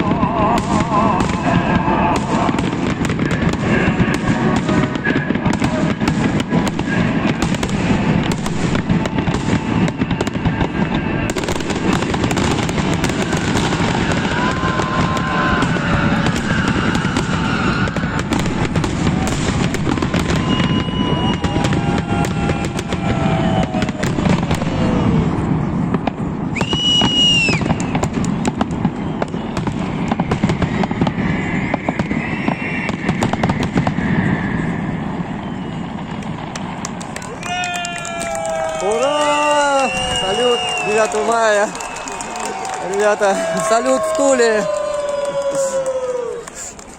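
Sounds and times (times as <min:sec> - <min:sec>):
fireworks bangs and crackling: 0:00.0 - 0:46.9
fireworks whistles: 0:00.0 - 0:46.9.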